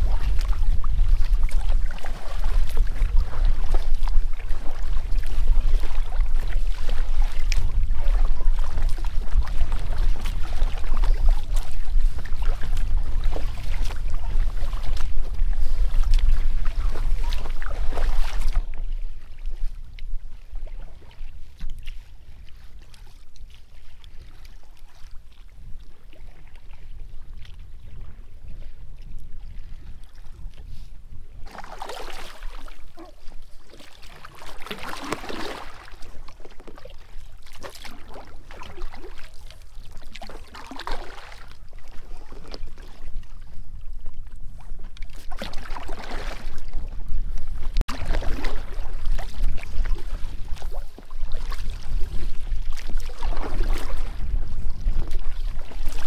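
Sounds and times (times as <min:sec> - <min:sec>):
paddle splashing in water: 0:00.0 - 0:56.0
wind rumble on microphone: 0:00.0 - 0:56.0.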